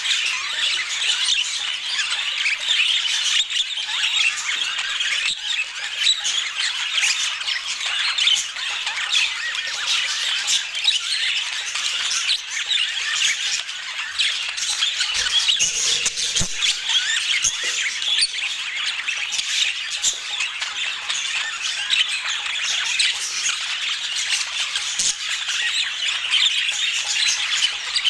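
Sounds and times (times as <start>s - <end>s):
budgerigars chattering and squawking: 0.0s - 28.0s.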